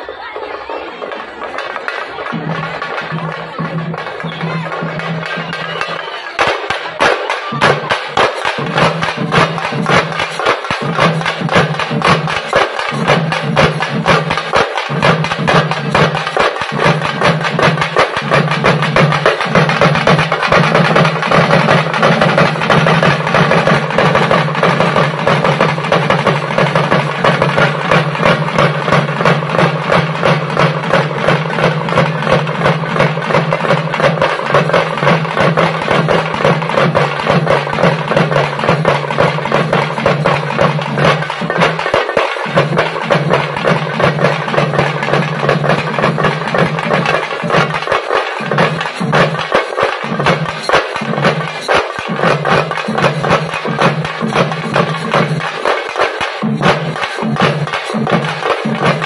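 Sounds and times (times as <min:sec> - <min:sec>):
frame drums beaten fast: 0:00.1 - 0:59.0.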